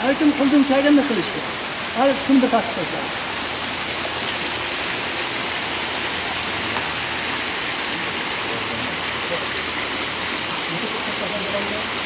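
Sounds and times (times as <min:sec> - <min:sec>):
water jets splashing into pool: 0:00.0 - 0:12.0.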